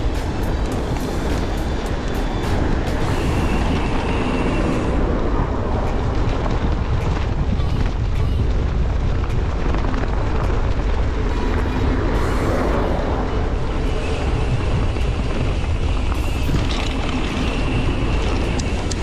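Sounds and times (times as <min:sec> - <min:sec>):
passing city traffic: 0:00.0 - 0:19.0
wind rumble on microphone: 0:00.0 - 0:19.0.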